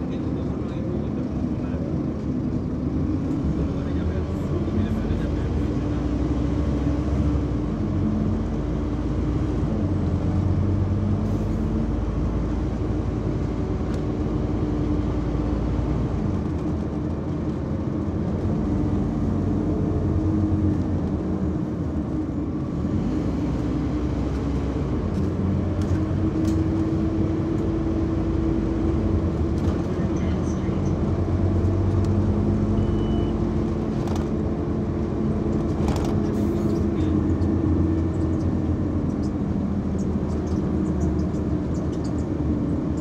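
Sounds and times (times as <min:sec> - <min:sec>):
bus engine humming: 0:00.0 - 0:43.0.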